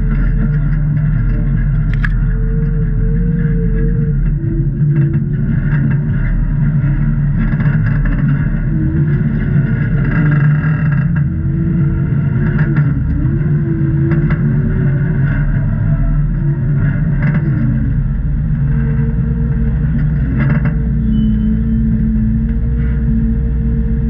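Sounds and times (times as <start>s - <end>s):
engine running at low speed: 0.0s - 24.0s.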